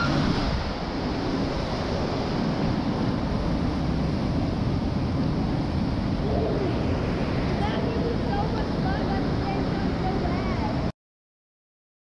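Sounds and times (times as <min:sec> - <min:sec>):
water rushing and splashing: 0:00.0 - 0:10.9
wind rumble on microphone: 0:00.0 - 0:10.9.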